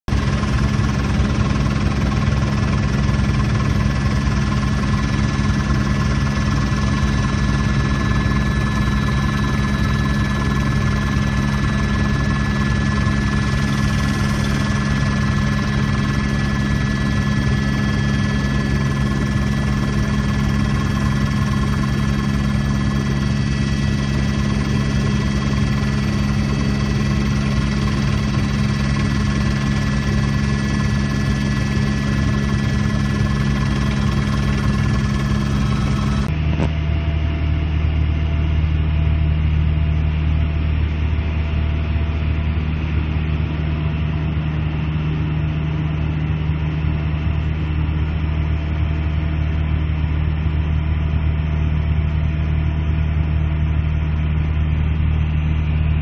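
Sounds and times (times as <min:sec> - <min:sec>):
helicopter rotor and engine drone: 0:00.1 - 0:56.0.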